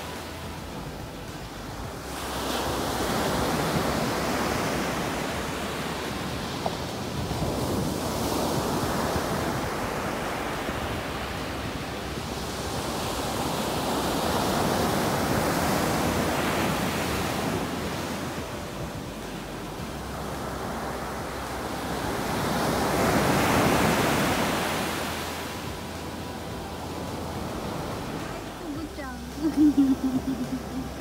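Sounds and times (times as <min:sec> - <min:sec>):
ocean surf breaking on beach: 0:00.0 - 0:31.0.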